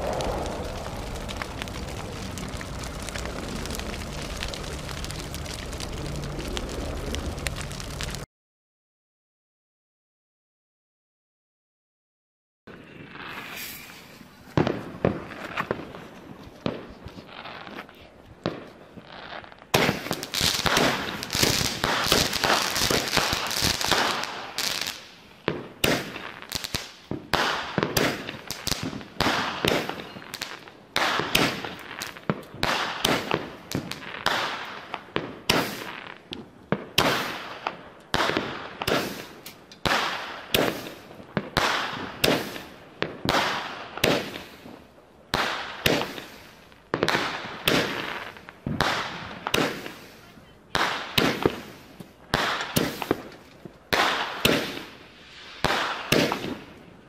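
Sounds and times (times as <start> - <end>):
firework battery shots crackling: 0.0 - 8.3, 12.8 - 16.0, 19.6 - 56.8.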